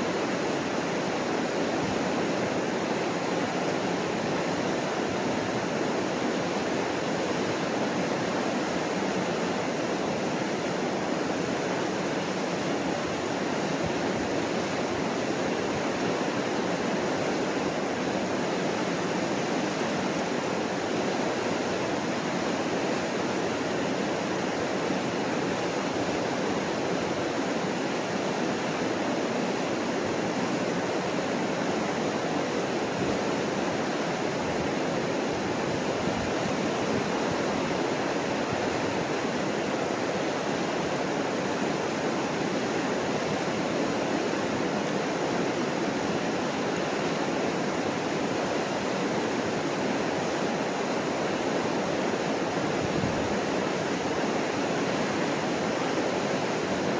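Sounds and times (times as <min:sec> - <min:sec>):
whitewater rushing over rocks: 0:00.0 - 0:56.9.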